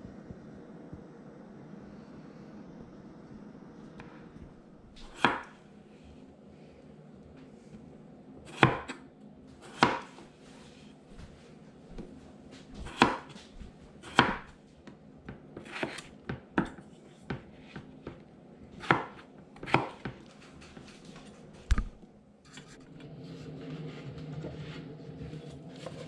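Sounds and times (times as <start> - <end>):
soft steady noise: 0.0 - 26.0.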